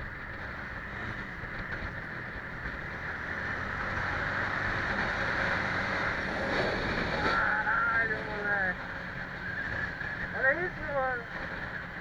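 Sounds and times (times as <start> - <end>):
road noise: 0.0 - 12.0
truck diesel engine: 0.0 - 12.0
wind: 0.0 - 12.0.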